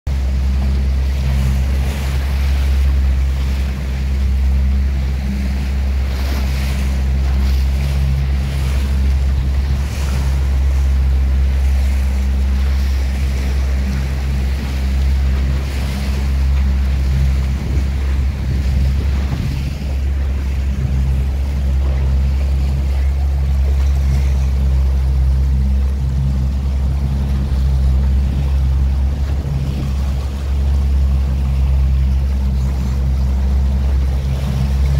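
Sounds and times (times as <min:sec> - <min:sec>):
motorboat engine droning: 0:00.1 - 0:34.9
water rushing past hull: 0:00.1 - 0:34.9
wind buffeting microphone: 0:00.1 - 0:34.9.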